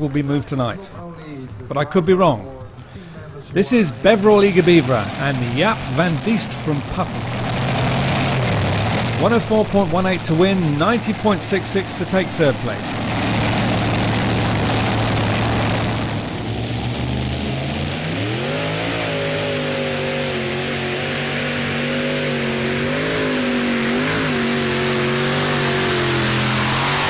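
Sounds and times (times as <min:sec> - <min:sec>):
tractor engine at full throttle: 0:00.0 - 0:00.8, 0:03.6 - 0:27.0.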